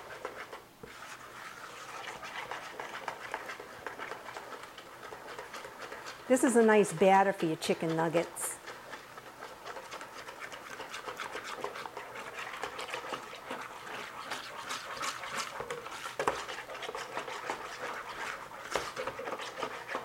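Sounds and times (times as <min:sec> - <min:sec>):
utensil scraping batter in bowl: 0:00.0 - 0:20.0.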